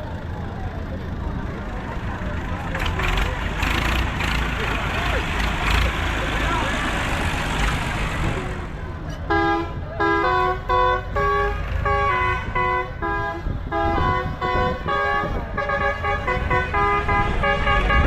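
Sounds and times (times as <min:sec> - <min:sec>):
tractor engine rumble: 0:00.0 - 0:18.0.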